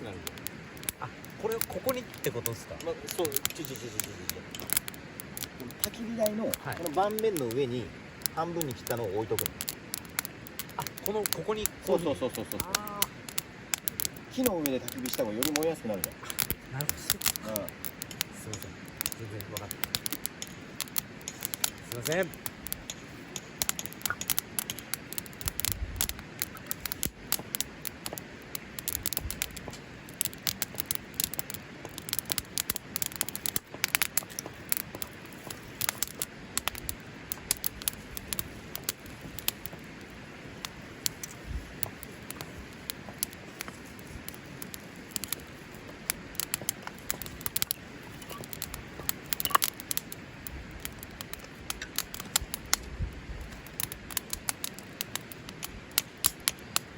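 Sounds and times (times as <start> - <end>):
low hiss of fire: 0.0 - 56.9
wood fire crackling: 0.0 - 56.9.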